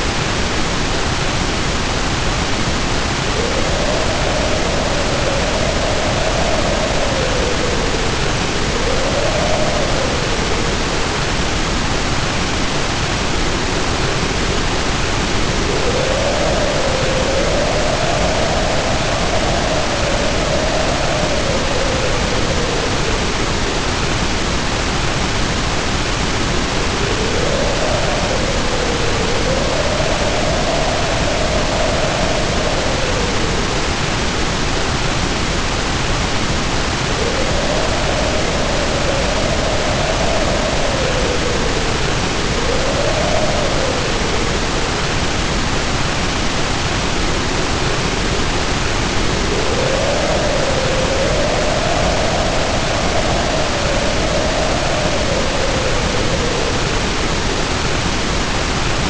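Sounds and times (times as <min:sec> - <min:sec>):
heavy rain pouring: 0:00.0 - 0:59.0
wind howling: 0:00.0 - 0:59.0.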